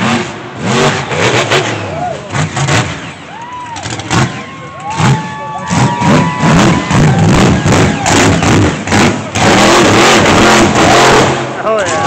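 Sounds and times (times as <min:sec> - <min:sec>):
truck engine revving: 0:00.0 - 0:12.0
crowd cheering: 0:00.8 - 0:12.0.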